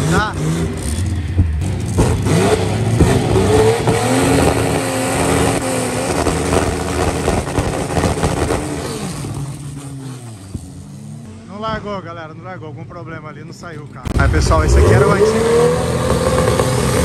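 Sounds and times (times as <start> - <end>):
drag car engine revving: 0.0 - 11.8, 13.0 - 17.0.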